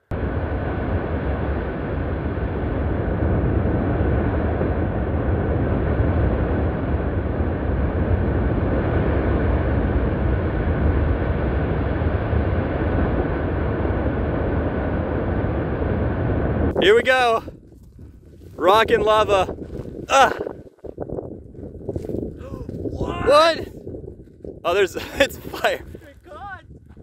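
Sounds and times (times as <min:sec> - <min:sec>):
volcano erupting with deep roar: 0:00.0 - 0:17.7, 0:18.4 - 0:26.1.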